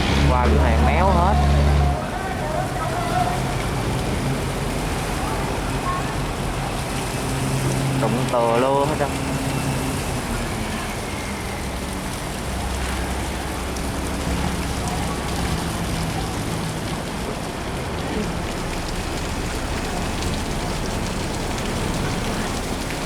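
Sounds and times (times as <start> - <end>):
boat engines droning: 0.0 - 23.0
water rushing through sluice gate: 0.0 - 23.0.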